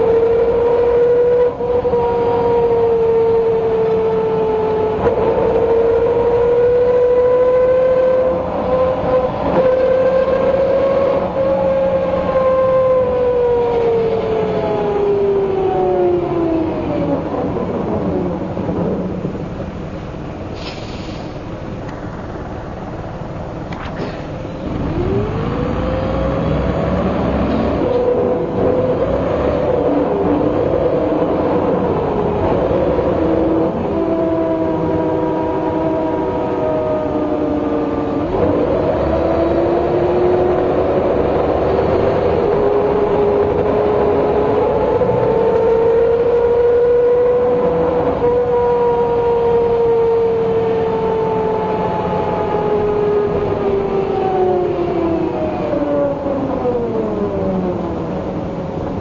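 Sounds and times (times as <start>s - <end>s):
diesel bus engine pulling away: 0.0s - 59.0s.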